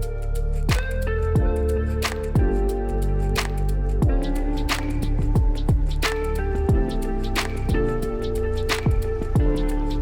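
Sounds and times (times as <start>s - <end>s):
held tones over a beat: 0.0s - 10.0s.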